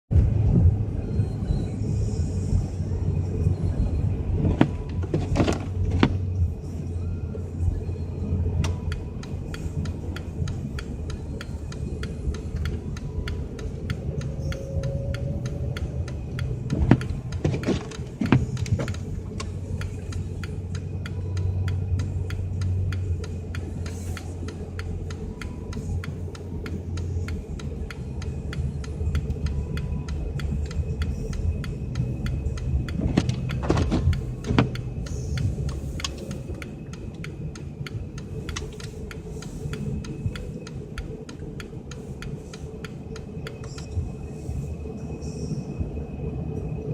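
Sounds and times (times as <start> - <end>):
car engine rumble: 0.1 - 46.9
road noise: 0.1 - 46.9.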